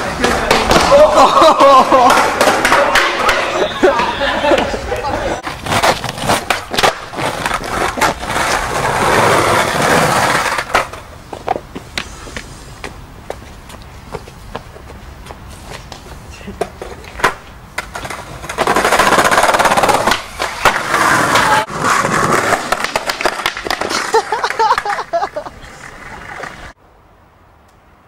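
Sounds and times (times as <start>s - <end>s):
skateboard clacks: 0.0s - 26.8s
skateboard wheels rolling on pavement: 0.0s - 28.0s.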